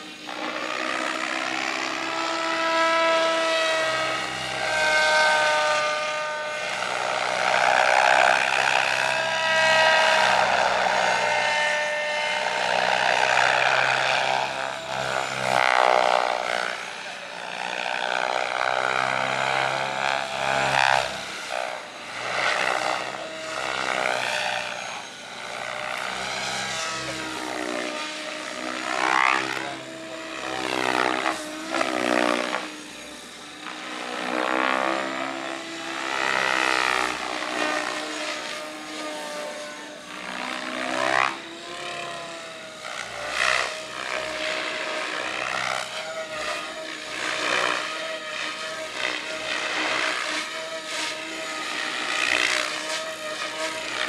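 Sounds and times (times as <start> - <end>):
model helicopter rotors whining: 0.0 - 54.0.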